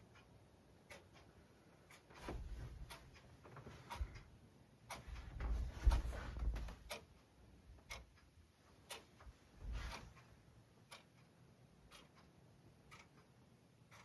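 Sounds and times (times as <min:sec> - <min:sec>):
faint clicks and ticks: 0:00.0 - 0:14.0.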